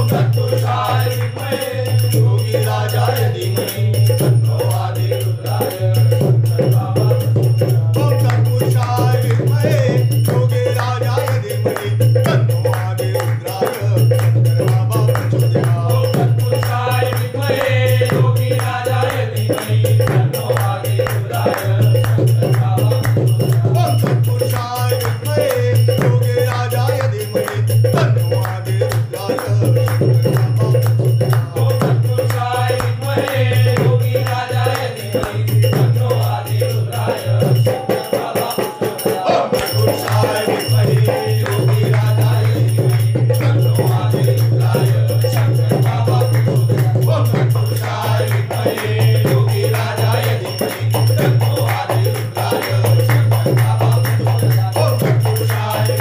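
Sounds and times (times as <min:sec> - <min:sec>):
rattling hand percussion: 0:00.0 - 0:56.0.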